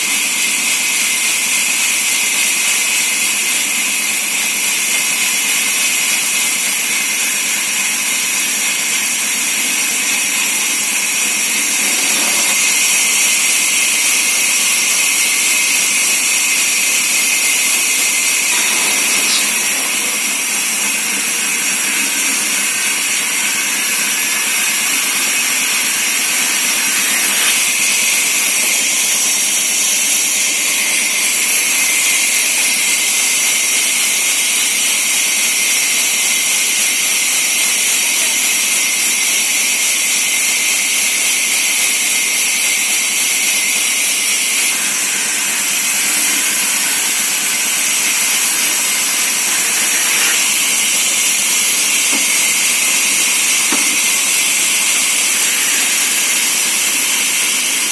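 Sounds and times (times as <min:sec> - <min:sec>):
sawmill saw whining: 0:00.0 - 0:57.9.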